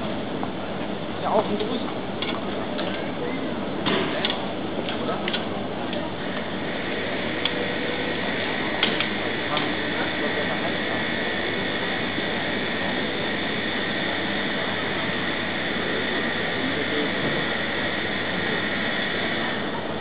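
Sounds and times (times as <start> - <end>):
crane engine running: 0.0 - 20.0
high whine: 2.9 - 20.0.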